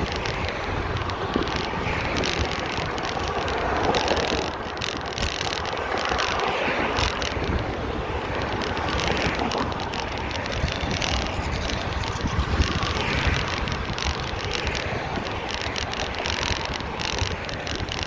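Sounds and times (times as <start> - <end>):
bicycle tyre noise: 0.0 - 18.0
small clicks and rattles: 0.0 - 18.0
wind buffeting microphone: 0.0 - 18.0.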